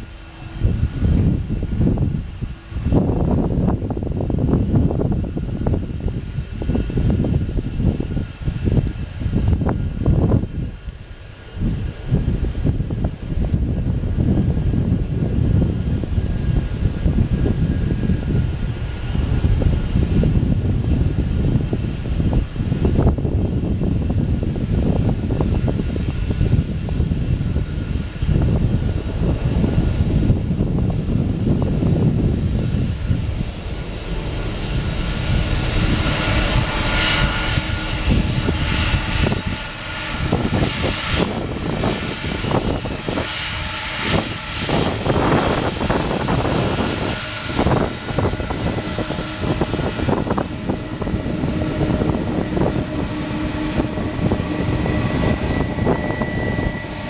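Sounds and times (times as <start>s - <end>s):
jet engines rumbling: 0.0s - 57.0s
turbine whine with whistling tones: 0.0s - 57.0s.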